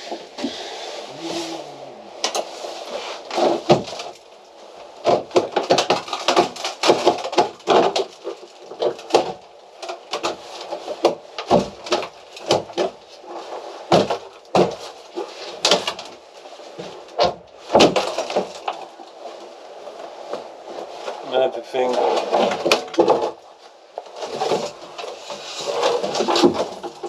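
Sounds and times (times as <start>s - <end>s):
wooden panelling cracking and splintering: 2.2s - 27.0s.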